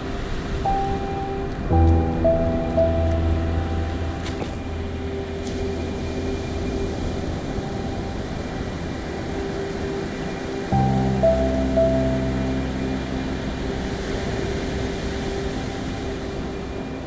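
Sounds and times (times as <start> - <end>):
soft held music tone: 0.0 - 17.0.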